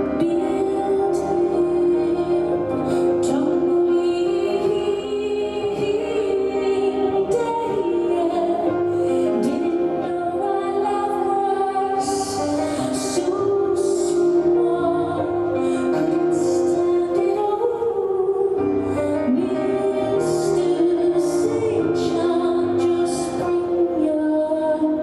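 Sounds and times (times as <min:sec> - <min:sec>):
woman singing slow song: 0:00.0 - 0:25.0.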